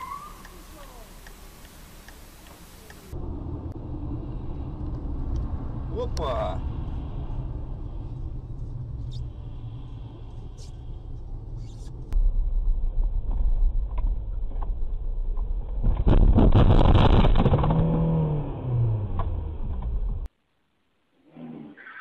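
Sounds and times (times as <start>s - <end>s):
car road noise: 0.0s - 20.3s.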